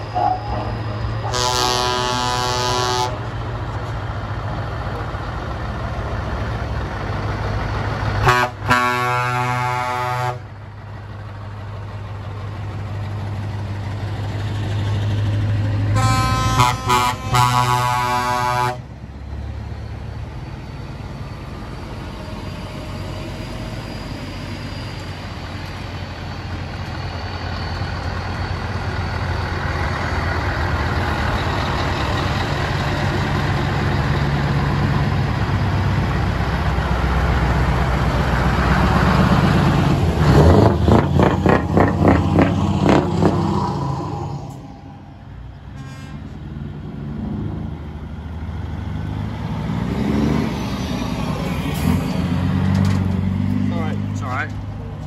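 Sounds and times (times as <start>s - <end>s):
heavy truck diesel engines: 0.0s - 55.0s.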